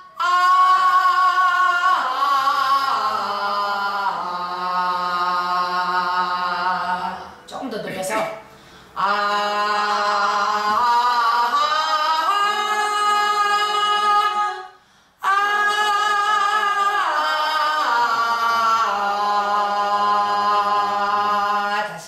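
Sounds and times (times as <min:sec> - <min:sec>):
woman singing a long ah: 0:00.0 - 0:07.4, 0:09.0 - 0:22.0.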